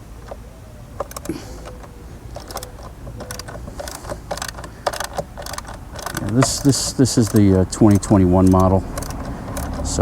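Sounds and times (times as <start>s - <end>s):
socket ratchet clicking: 1.0s - 10.0s.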